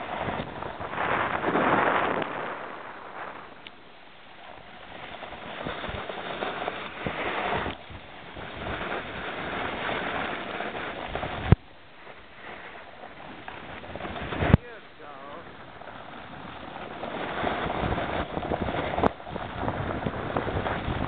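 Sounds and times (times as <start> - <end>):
snowboard scraping over snow: 0.0 - 21.0.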